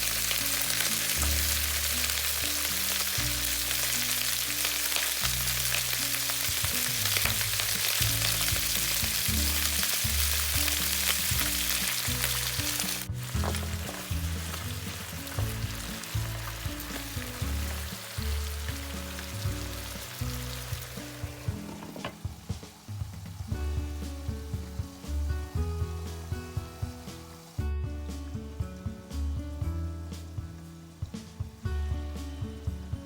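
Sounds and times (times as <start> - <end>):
background music with bass: 0.0 - 33.0
stir-fry sizzling in a pan: 0.0 - 33.0.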